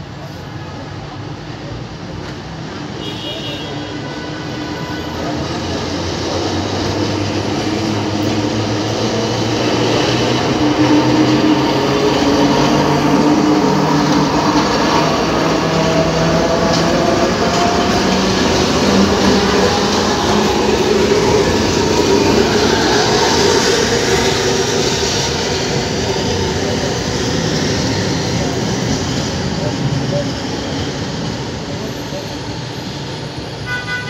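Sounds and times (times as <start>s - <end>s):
tram wheels on rails: 0.0s - 34.0s
low tram motor hum: 4.5s - 33.7s.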